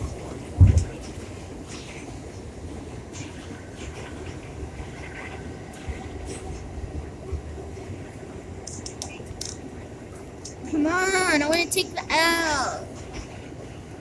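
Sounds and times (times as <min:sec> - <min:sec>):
subway train wheels rumbling: 0:00.0 - 0:14.0.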